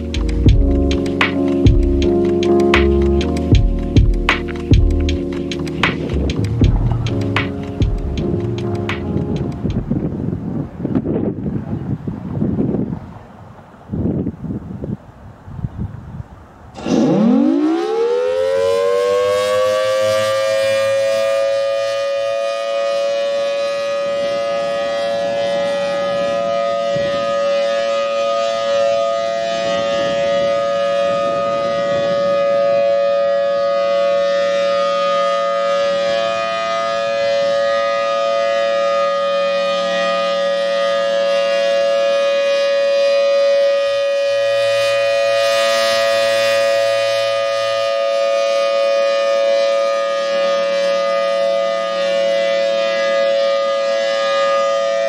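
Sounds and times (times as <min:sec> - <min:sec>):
warning siren: 0:00.0 - 0:11.6, 0:16.8 - 0:55.0.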